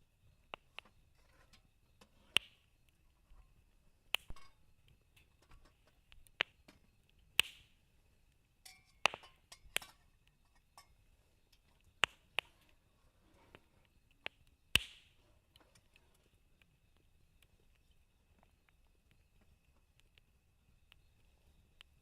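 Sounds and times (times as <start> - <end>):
campfire crackling and popping: 0.2 - 12.9, 13.5 - 22.0.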